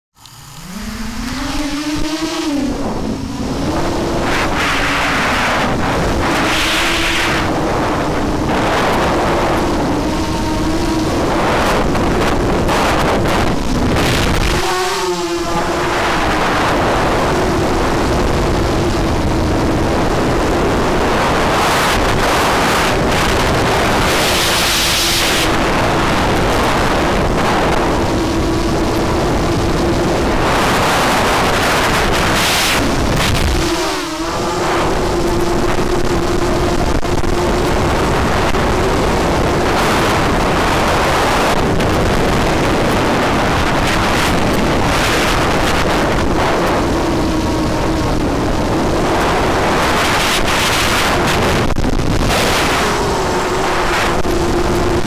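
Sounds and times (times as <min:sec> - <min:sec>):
drone motors whining: 0:00.2 - 0:49.9, 0:50.5 - 0:55.0
wind noise on microphone: 0:00.2 - 0:55.0.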